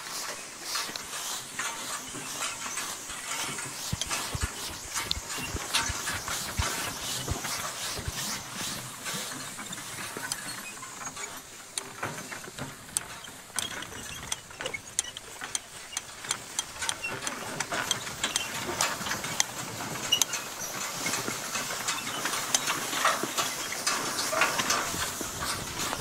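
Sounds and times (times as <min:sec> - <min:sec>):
hay rake tines rattling: 0:00.0 - 0:26.0.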